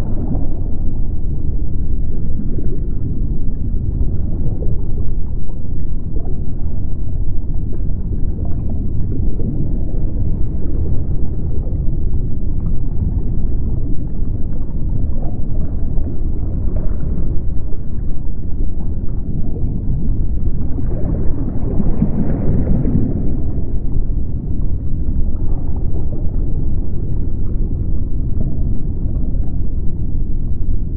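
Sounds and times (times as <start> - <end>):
faint gurgling: 0.0 - 30.9
underwater low rumble: 0.0 - 30.9.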